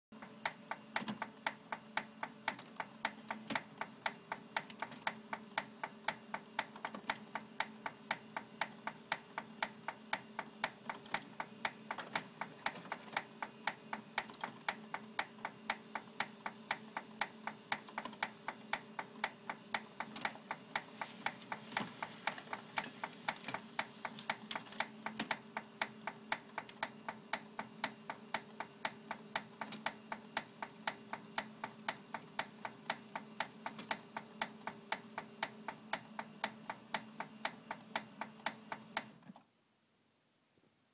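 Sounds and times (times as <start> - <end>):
printer clicking rapidly: 0.2 - 39.3.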